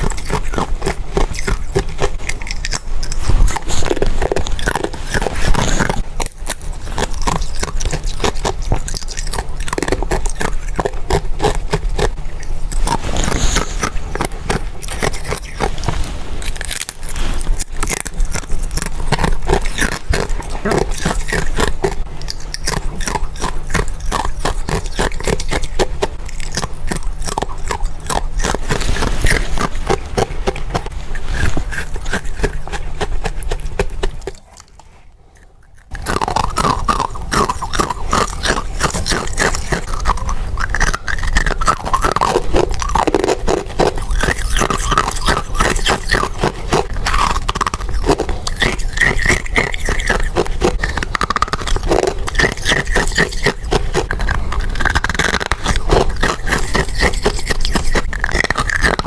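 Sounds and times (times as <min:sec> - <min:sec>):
frost being chewed: 0:00.0 - 0:59.0.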